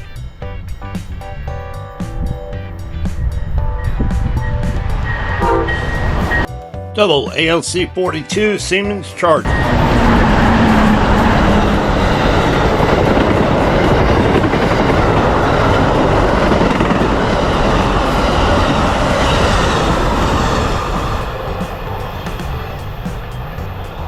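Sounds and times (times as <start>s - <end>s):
train passing at speed: 0.0s - 6.5s, 9.4s - 24.0s.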